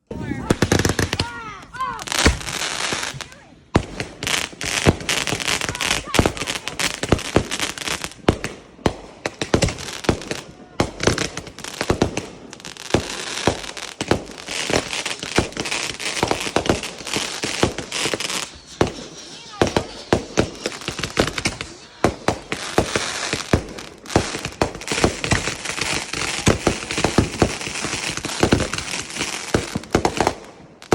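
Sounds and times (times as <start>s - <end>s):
fireworks bangs and pops: 0.0s - 1.4s, 2.0s - 30.9s
fireworks crackling: 0.0s - 30.9s.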